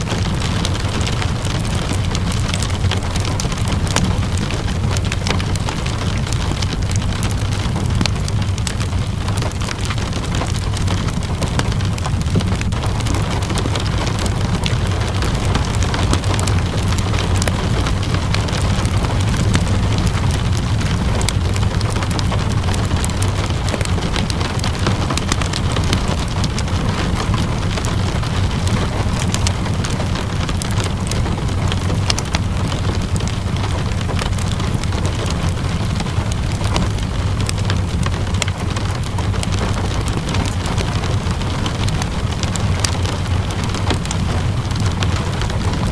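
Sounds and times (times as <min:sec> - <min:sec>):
low rumble: 0:00.0 - 0:45.9
steady rain: 0:00.0 - 0:45.9
wood fire crackling: 0:00.0 - 0:45.9.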